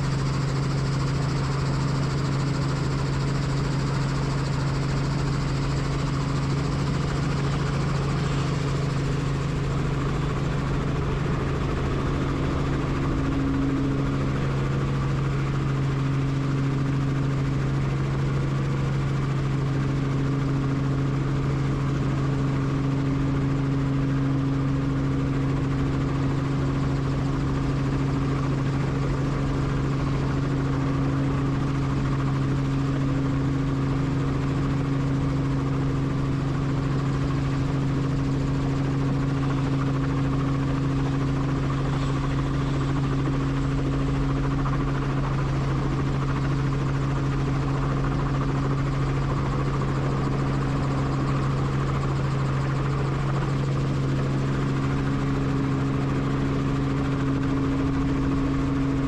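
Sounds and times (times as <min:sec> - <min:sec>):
helicopter running: 0:00.0 - 0:59.0.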